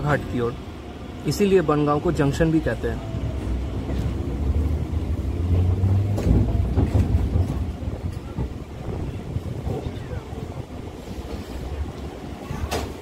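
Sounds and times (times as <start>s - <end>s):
electric train rumbling on track: 0.0s - 13.0s.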